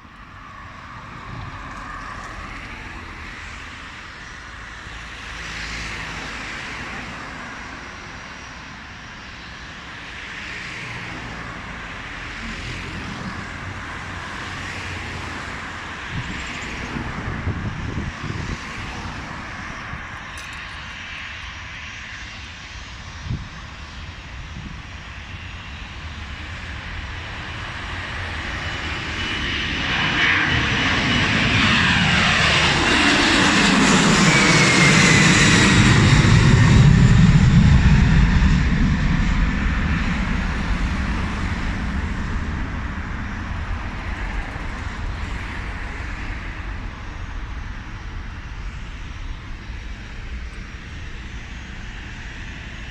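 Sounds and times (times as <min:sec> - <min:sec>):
aircraft engines passing: 0:00.0 - 0:52.9.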